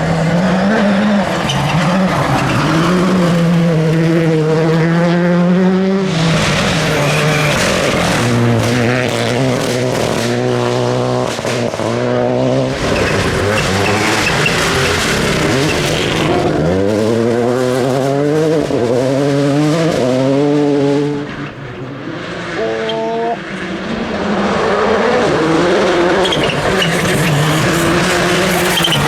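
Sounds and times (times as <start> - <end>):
rally car engine at full throttle: 0.0 - 29.0.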